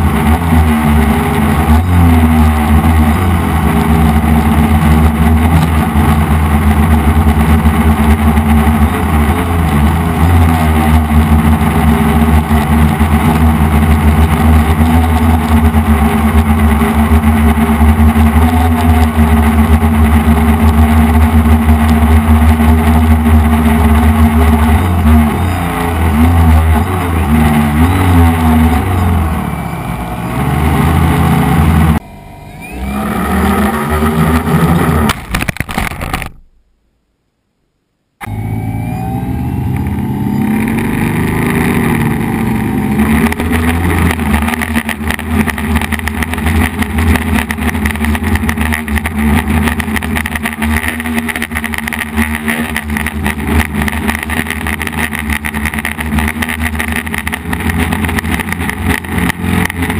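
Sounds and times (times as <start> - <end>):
quadcopter propellers buzzing: 0.0 - 35.1, 38.6 - 59.9.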